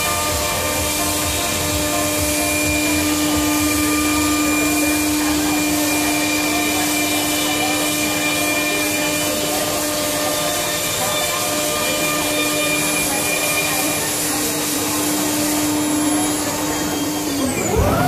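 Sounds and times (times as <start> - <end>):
milling spindle whining: 0.0 - 18.0.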